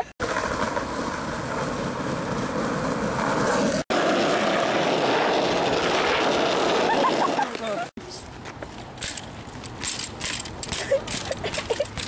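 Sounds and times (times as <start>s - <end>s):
wheels rolling on pavement: 0.2s - 12.0s.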